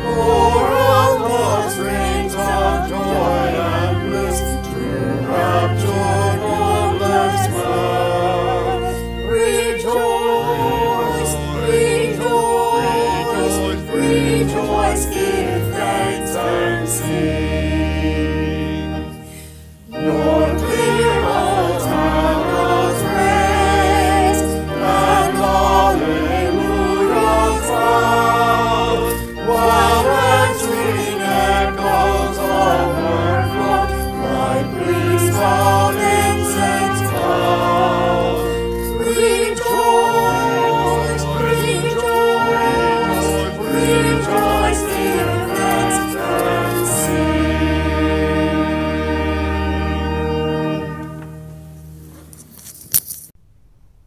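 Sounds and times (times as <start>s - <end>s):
choir singing a hymn: 0.0s - 51.8s.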